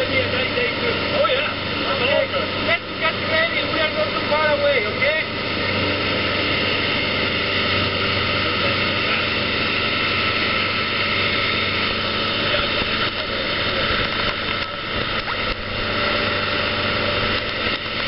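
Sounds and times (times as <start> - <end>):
boat engine drone: 0.0 - 18.0
wind and water rushing: 0.0 - 18.0.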